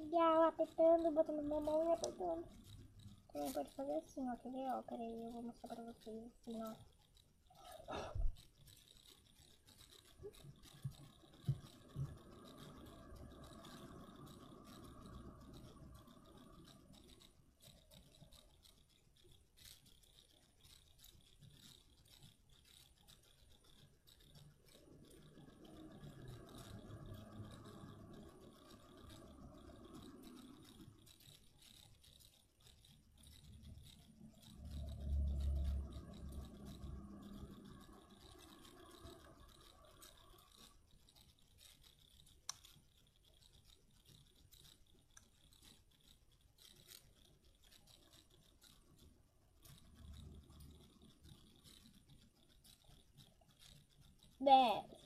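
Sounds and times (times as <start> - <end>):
clicks: 0.0 - 55.0.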